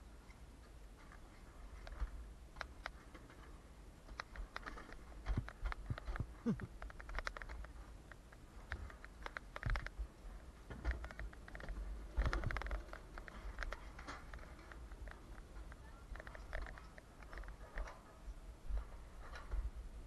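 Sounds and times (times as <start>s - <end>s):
wheels clicking and knocking: 0.3s - 19.8s
coaster sled rolling on track: 0.6s - 20.0s.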